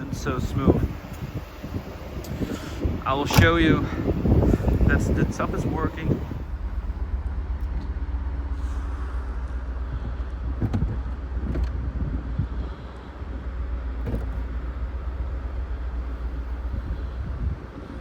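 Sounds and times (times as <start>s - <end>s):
car engine idling: 0.0s - 18.0s
hydraulic pump hum: 0.0s - 18.0s.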